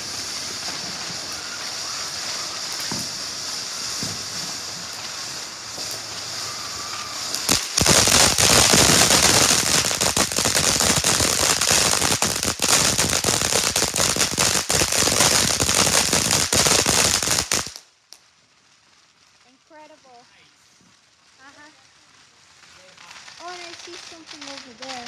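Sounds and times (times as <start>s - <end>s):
firework crackling pops: 0.0s - 25.0s
firework hissing: 0.0s - 25.0s.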